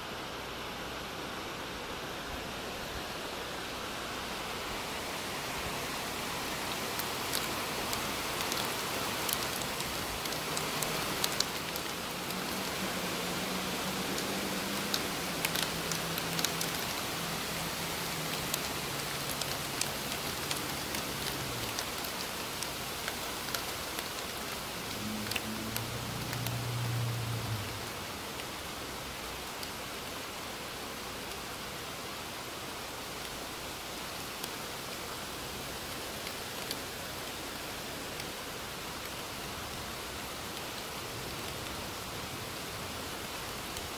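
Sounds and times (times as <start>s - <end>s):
rain falling on trees: 0.0s - 43.9s.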